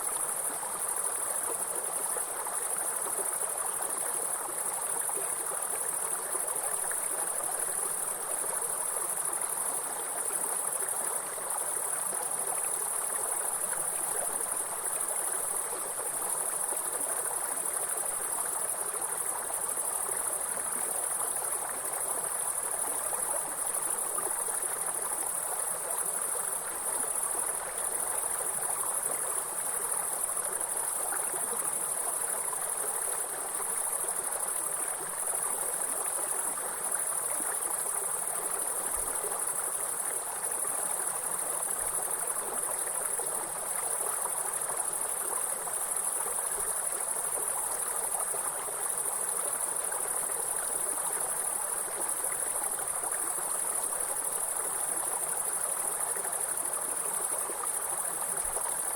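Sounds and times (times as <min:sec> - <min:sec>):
stream water running: 0:00.0 - 0:58.9.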